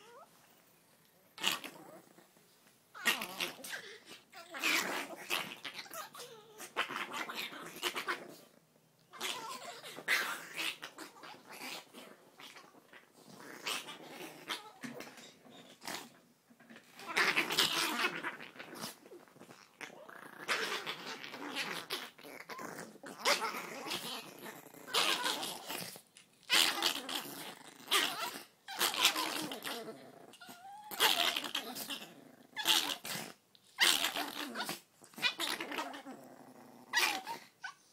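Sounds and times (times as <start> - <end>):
dogs growling: 1.4 - 2.4, 3.0 - 37.9.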